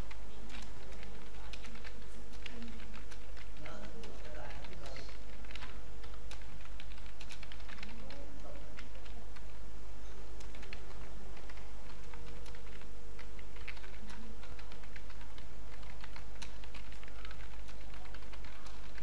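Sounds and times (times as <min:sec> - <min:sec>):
keyboard keys clicking: 0:00.0 - 0:09.6, 0:10.4 - 0:19.0.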